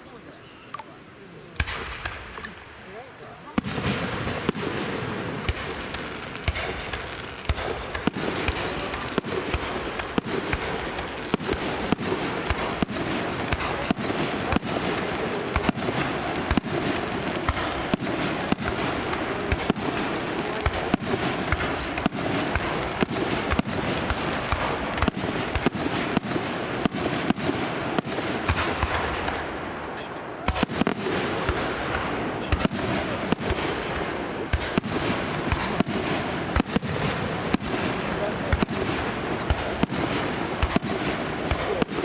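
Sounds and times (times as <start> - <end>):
fireworks bangs: 0.0 - 42.0
fireworks crackle: 0.0 - 42.0.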